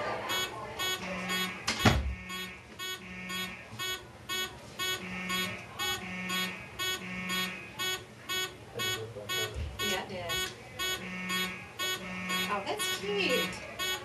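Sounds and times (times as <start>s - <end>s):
fire alarm horn buzzing blasts: 0.3s - 14.0s.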